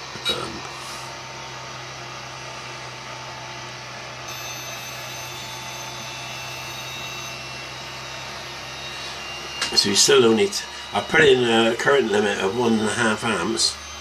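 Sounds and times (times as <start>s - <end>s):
electric motor humming: 0.0s - 14.0s
thin high whine: 0.0s - 14.0s.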